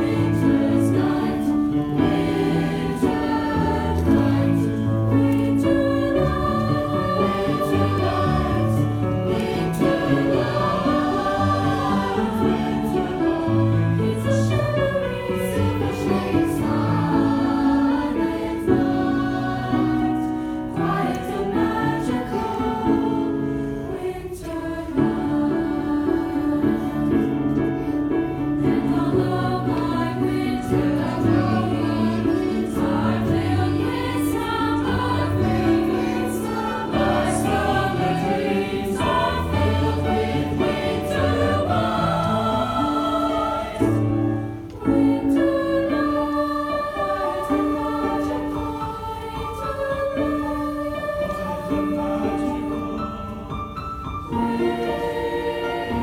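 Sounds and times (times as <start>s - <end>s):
choir singing in parts: 0.0s - 56.0s.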